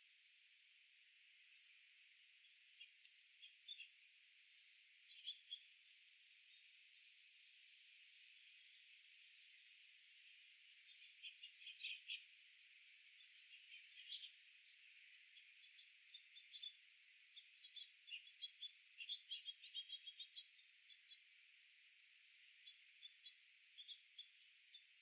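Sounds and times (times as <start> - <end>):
small birds chirping: 0.0 - 0.6, 1.4 - 25.0.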